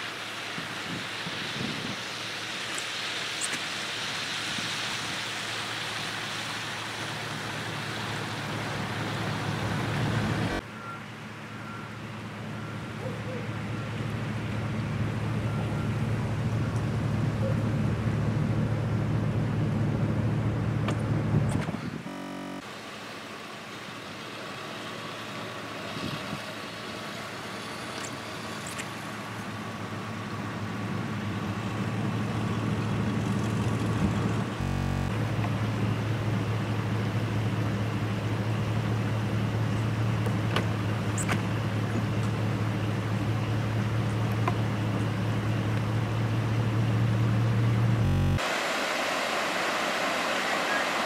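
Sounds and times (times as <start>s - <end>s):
vehicle idling hum: 5.3s - 48.4s.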